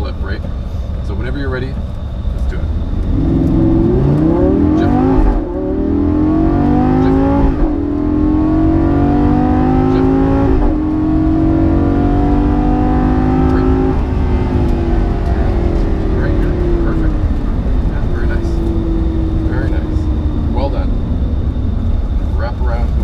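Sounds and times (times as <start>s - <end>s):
gear upshifts: 1.8s - 23.0s
sports car engine accelerating: 1.8s - 23.0s.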